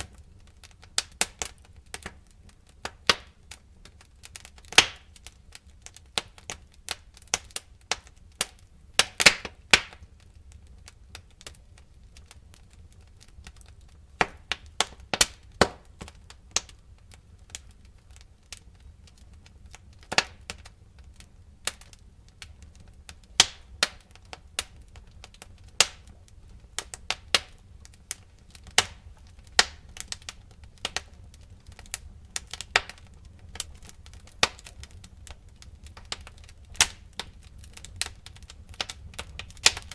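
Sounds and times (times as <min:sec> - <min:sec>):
fire pops and snaps: 0:00.0 - 0:39.9
low rumble of burning fire: 0:00.0 - 0:39.9.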